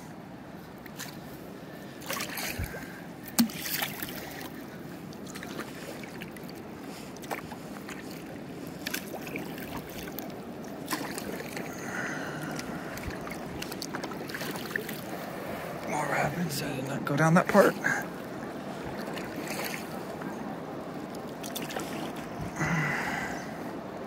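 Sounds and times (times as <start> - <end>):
water splashing around kayak hull: 0.6 - 23.1.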